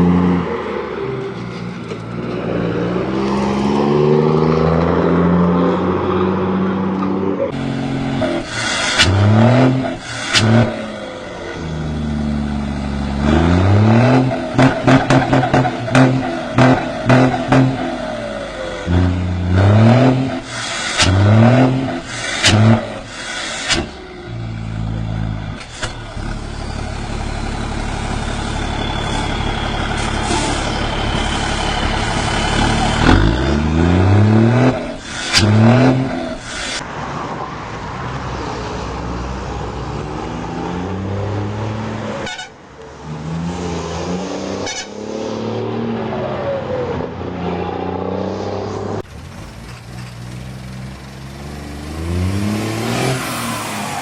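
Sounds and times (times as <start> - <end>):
diesel truck engine revving: 0.0 - 37.0, 42.9 - 54.0.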